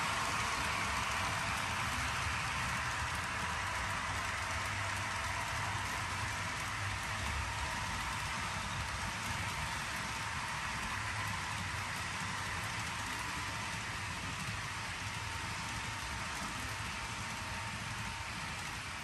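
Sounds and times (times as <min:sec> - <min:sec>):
model train wheels hissing on rail: 0:00.0 - 0:19.0.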